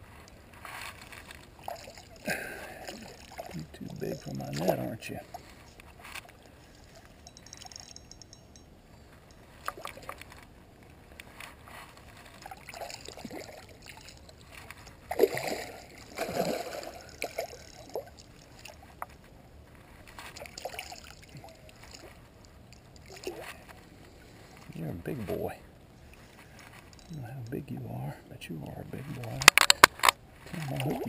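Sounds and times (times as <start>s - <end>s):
water splashing and sloshing: 0.0s - 27.7s, 29.0s - 31.0s.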